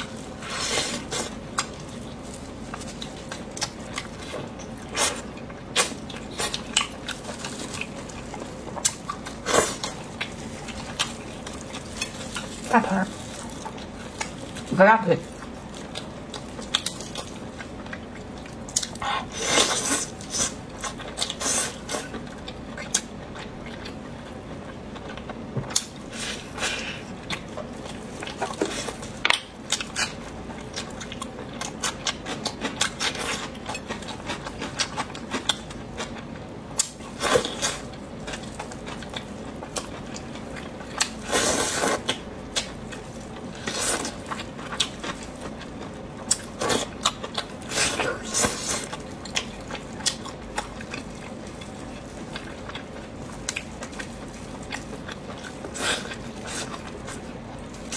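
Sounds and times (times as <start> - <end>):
person chewing: 0.0 - 57.9.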